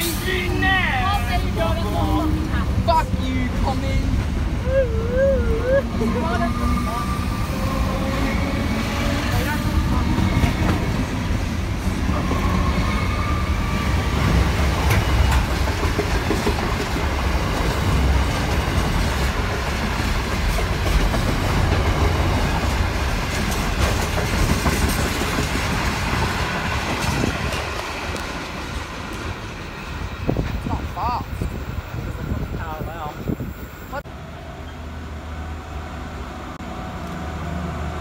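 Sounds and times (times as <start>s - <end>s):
electric train whine: 0.0s - 38.0s
freight train rumbling past: 0.0s - 38.0s.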